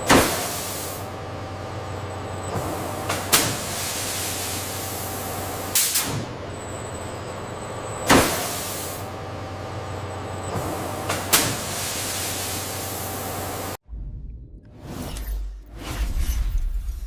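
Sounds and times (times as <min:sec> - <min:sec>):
factory machinery hum: 0:00.0 - 0:13.8.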